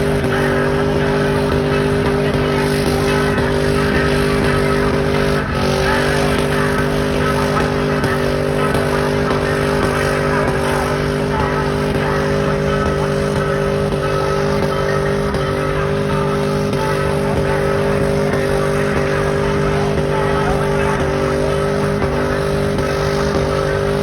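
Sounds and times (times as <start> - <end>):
dense wash of noise: 0.0 - 24.0
truck engine at high revs: 0.0 - 24.0.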